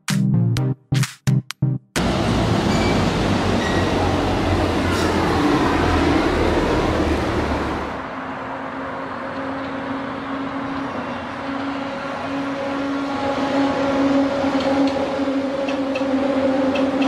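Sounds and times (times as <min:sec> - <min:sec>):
maglev train rumble and whine: 0:02.0 - 0:17.0
train low hum: 0:02.0 - 0:17.0.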